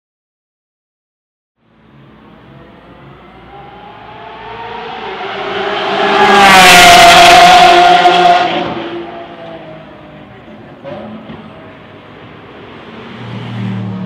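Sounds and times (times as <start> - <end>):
sports car passing at full throttle: 1.7 - 14.0.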